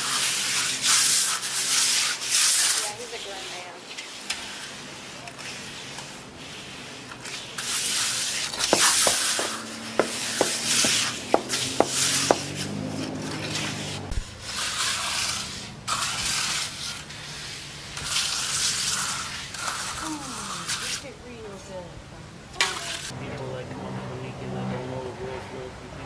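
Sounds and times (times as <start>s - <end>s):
shovels scraping wet concrete: 0.0s - 21.1s, 22.6s - 23.2s.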